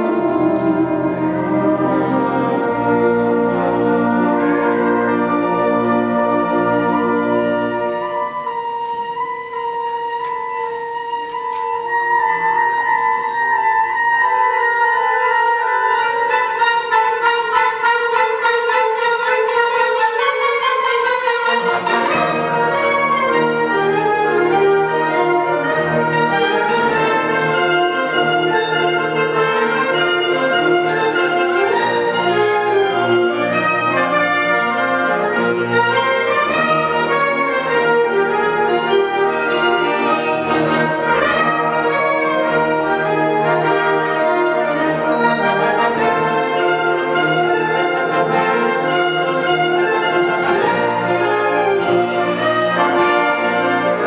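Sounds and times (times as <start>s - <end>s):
wind band playing: 0.0s - 54.0s.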